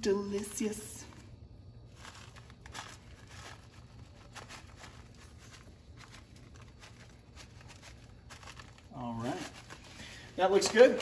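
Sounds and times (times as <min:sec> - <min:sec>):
low steady hum: 0:00.0 - 0:11.0
cheese rustling sprinkled by hand: 0:00.1 - 0:11.0.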